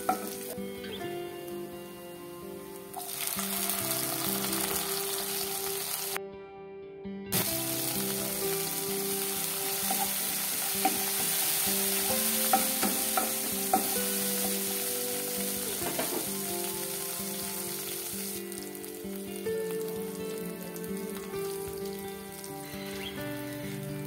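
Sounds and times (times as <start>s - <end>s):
vegetables sizzling in hot oil: 0.0s - 0.6s, 2.9s - 6.2s, 7.4s - 24.0s.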